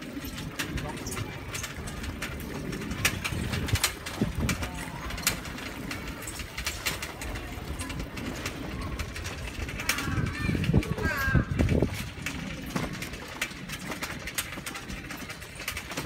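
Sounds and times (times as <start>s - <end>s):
bicycle clicking and rattling: 0.0s - 16.0s
low rumble of tyres on bricks: 0.0s - 16.0s.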